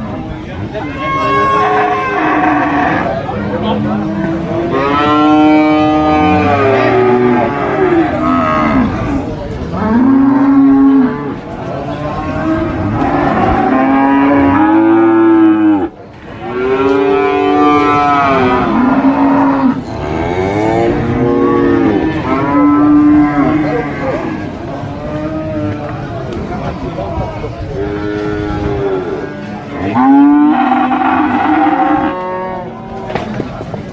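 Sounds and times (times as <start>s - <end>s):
cattle mooing: 1.0s - 3.2s, 4.0s - 25.9s, 27.9s - 33.2s.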